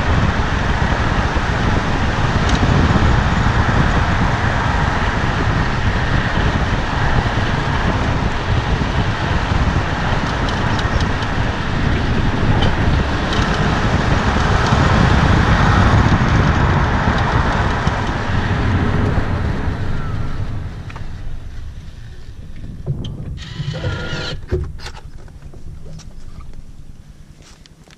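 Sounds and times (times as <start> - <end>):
car road and tyre noise: 0.0 - 27.9.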